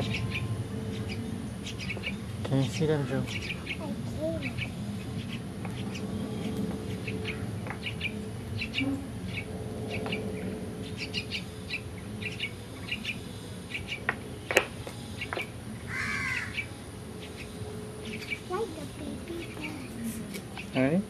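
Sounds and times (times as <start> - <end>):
nestling birds chirping: 0.0 - 21.0.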